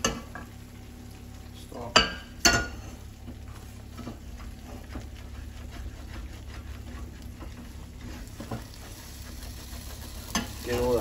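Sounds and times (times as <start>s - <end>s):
filling popping in a pan: 0.0s - 11.0s
low steady hum: 0.0s - 11.0s.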